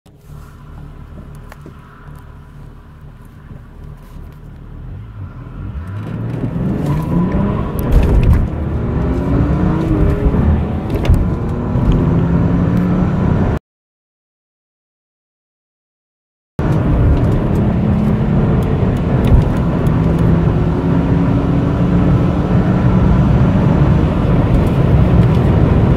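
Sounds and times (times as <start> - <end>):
car engine accelerating: 0.1 - 13.6, 16.6 - 25.9.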